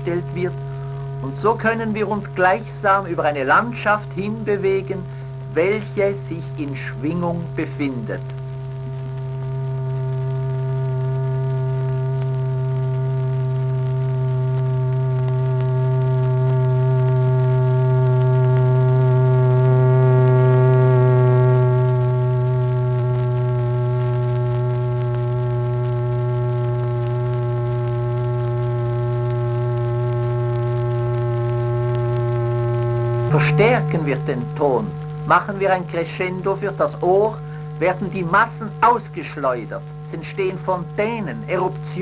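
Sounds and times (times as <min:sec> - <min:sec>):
low humming tone with overtones: 0:00.0 - 0:42.0.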